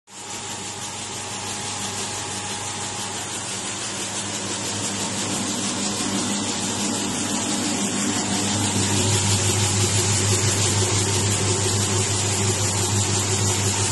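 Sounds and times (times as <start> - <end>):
feed mixer motor hum: 0.2 - 13.9.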